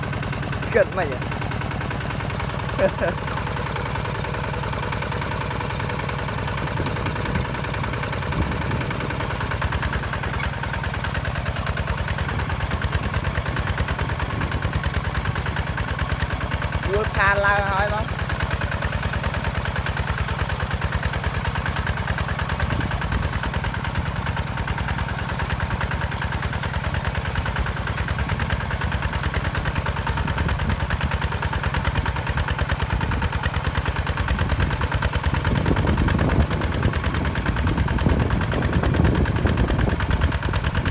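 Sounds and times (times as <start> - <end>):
diesel engine chugging under load: 0.0 - 40.9.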